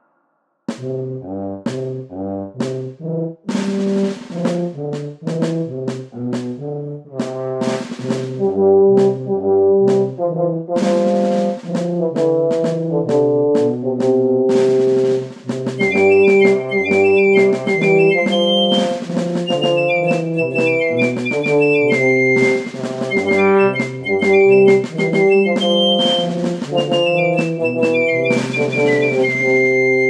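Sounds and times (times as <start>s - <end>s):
instrumental score music: 0.7s - 30.0s.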